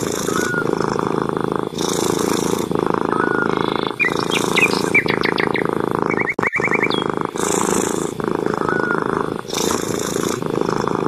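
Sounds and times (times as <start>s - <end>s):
cat purring: 0.0s - 11.0s
small birds chirping: 0.0s - 11.0s.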